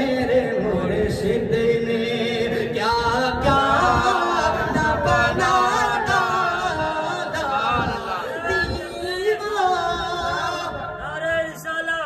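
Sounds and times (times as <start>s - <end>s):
men singing devotional song: 0.0s - 12.0s.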